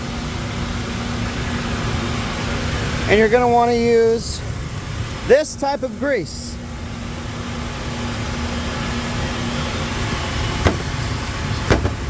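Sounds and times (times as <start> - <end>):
machine and fan hum: 0.0 - 12.0.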